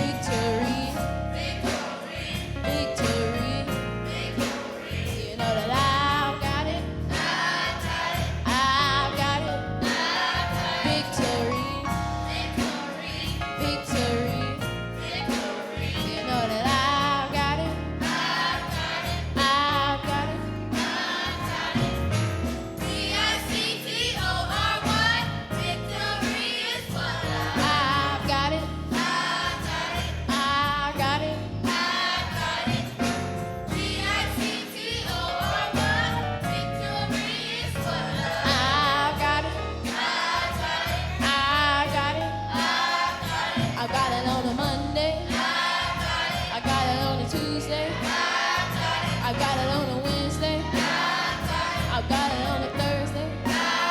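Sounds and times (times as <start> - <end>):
bass line: 0.0 - 12.6, 13.2 - 29.0, 29.6 - 34.4, 35.0 - 39.9, 40.5 - 50.8, 51.4 - 53.6
gospel choir singing: 0.0 - 53.9
instrumental backing: 0.0 - 53.9.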